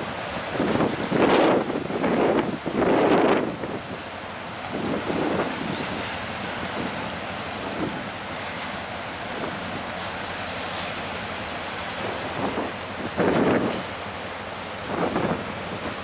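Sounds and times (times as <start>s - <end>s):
wind buffeting microphone: 0.0s - 10.1s, 11.2s - 16.0s
sea washing against rocks: 0.0s - 16.0s.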